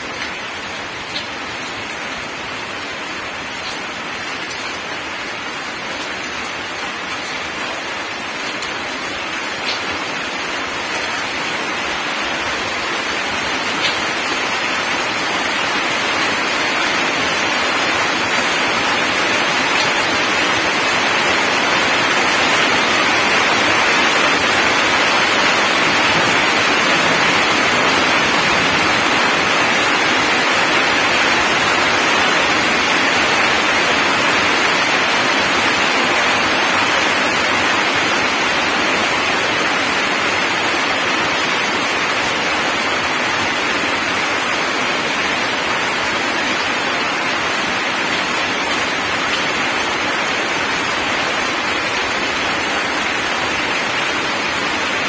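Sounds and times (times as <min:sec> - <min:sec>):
heavy rain on gravel: 0:00.0 - 0:55.0.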